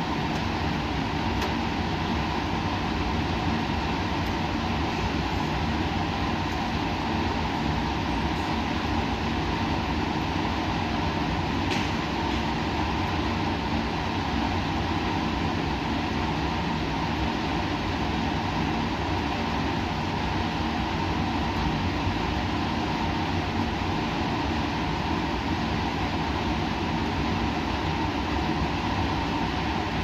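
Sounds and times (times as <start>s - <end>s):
machinery humming: 0.0s - 30.0s
ventilation air hiss: 0.0s - 30.0s.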